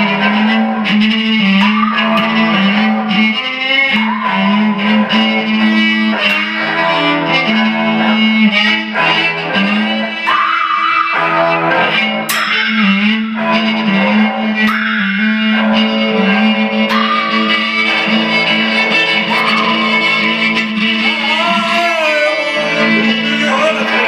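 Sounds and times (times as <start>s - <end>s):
guitar playing: 0.0s - 24.0s
violin bowed hard: 0.0s - 24.0s.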